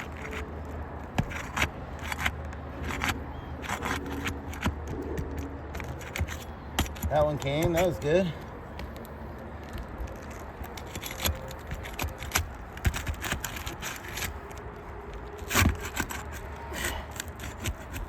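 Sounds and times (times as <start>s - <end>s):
metal bar scraping under shingles: 0.0s - 8.5s, 9.8s - 18.0s
shingles crackling and tearing: 0.0s - 18.0s.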